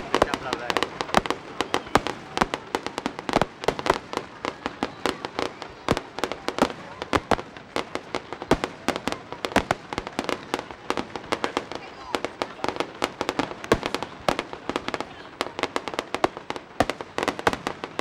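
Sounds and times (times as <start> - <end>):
fireworks bangs and cracks: 0.0 - 18.0.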